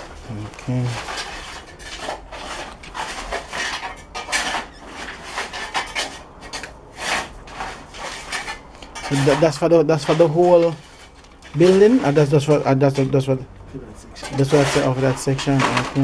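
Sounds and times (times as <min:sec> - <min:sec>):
scraping on concrete and rubble: 0:00.0 - 0:16.0.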